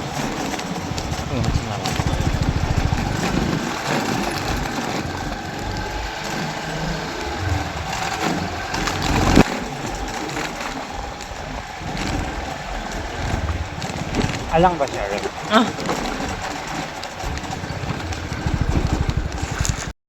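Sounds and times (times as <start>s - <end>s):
vehicle engine running: 0.0s - 19.9s
wind and road noise: 0.0s - 19.9s.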